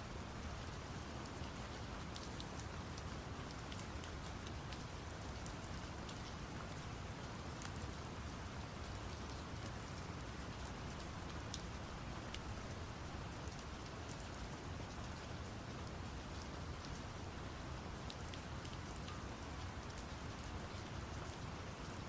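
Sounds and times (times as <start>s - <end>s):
steady rain: 0.0s - 22.0s
sharp raindrop ticks: 0.6s - 6.9s, 7.5s - 14.3s, 16.3s - 22.0s.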